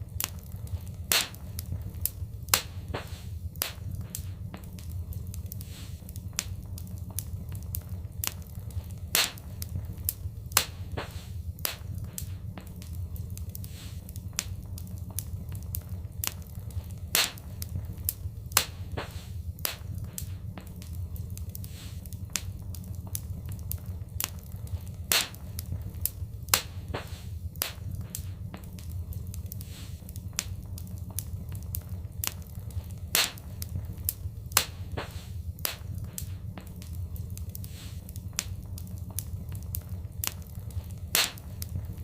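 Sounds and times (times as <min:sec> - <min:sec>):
low fire rumble: 0:00.0 - 0:42.0
wood fire crackling: 0:00.0 - 0:42.0.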